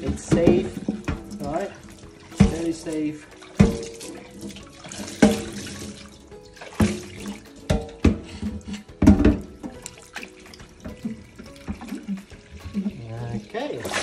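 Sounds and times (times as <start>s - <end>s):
metal pan clanking on sink: 0.0s - 6.0s, 6.7s - 13.1s
tap water running into pan: 0.0s - 14.0s.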